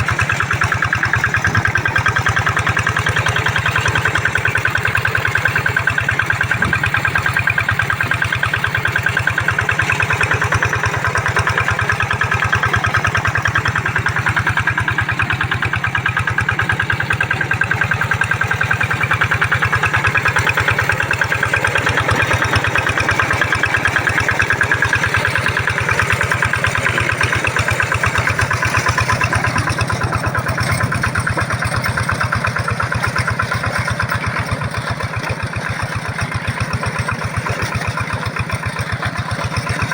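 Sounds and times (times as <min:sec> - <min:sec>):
hand tractor engine chugging: 0:00.0 - 0:39.9.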